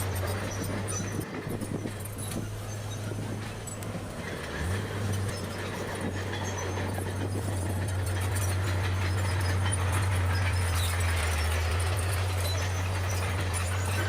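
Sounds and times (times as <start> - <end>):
bulldozer diesel engine droning: 0.0 - 14.0.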